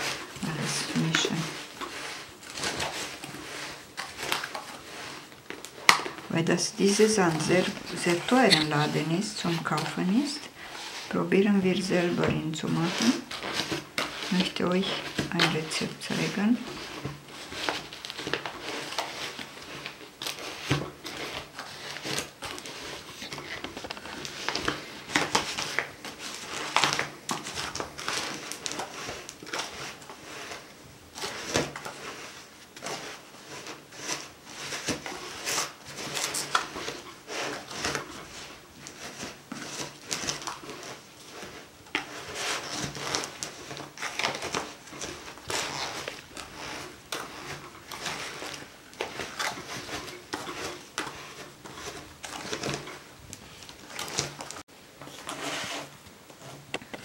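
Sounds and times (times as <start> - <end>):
plastic tub crinkling: 0.0 - 57.0.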